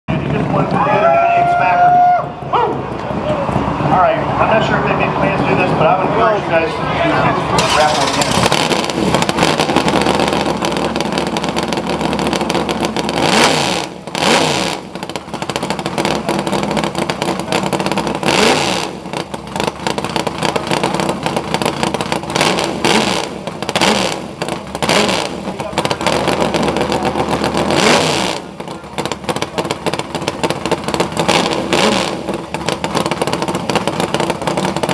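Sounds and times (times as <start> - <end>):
race car engine revving: 2.6 - 34.9.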